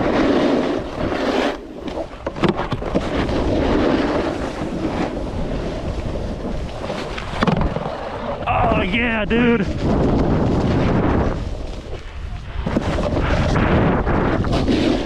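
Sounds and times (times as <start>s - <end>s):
snowboard scraping over snow: 0.0s - 15.0s
wind buffeting microphone: 2.0s - 15.0s.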